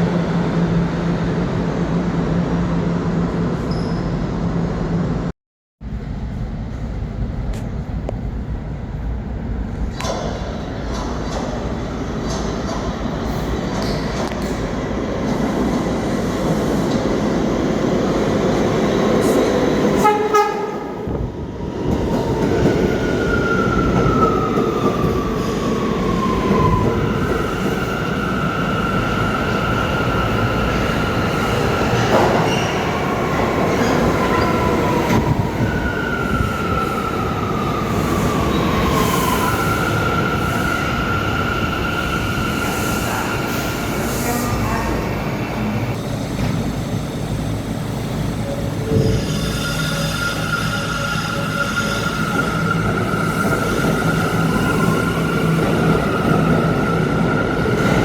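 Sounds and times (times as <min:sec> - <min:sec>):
subway train rumbling: 0:00.0 - 0:58.0.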